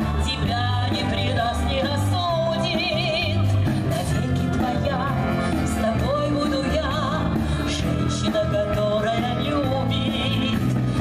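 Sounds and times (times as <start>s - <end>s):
brass band playing dance music: 0.0s - 11.0s.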